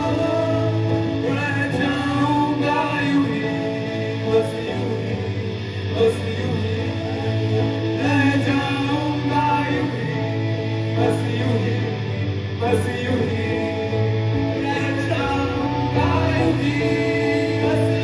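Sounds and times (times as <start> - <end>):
bass line: 0.0 - 18.0
guitar: 0.0 - 18.0
person singing: 0.0 - 18.0.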